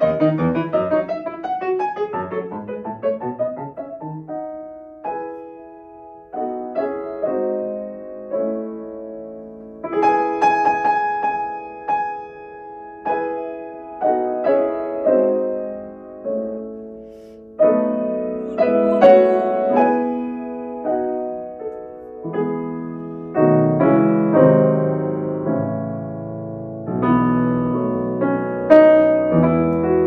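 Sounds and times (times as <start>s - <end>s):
solo grand piano chords: 0.0s - 30.0s.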